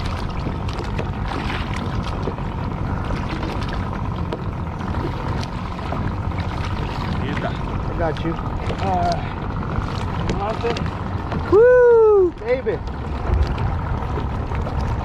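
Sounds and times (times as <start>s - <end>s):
water splashes and knocks: 0.0s - 11.6s, 12.2s - 15.0s
sea water around kayak: 0.0s - 15.0s
wind: 0.0s - 15.0s.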